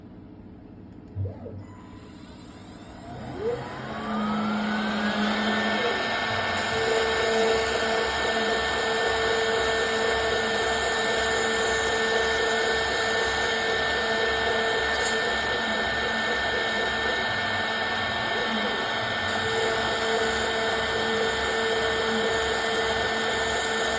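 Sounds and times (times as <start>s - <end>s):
spindle motor whining: 1.4s - 23.9s.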